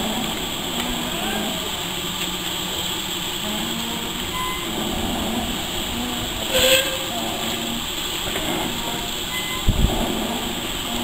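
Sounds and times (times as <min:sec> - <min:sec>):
locomotives rolling slowly: 0:00.0 - 0:11.0
steam hiss: 0:00.0 - 0:11.0.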